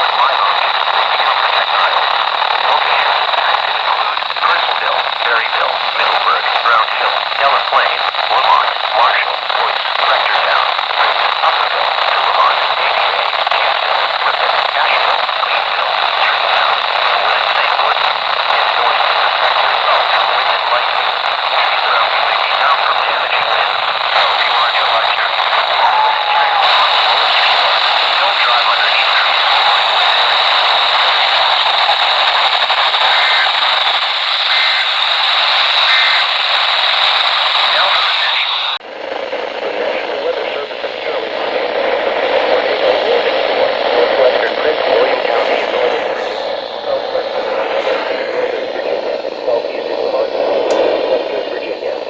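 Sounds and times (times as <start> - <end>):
radio static hiss: 0.0 - 52.0
voice reading over radio: 0.0 - 52.0.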